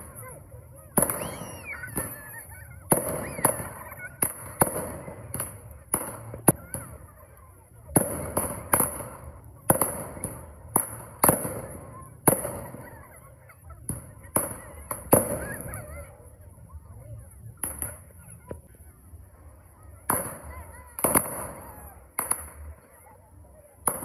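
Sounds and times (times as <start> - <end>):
fireworks bangs with echoes: 0.0 - 16.1, 17.3 - 18.8, 19.6 - 24.0.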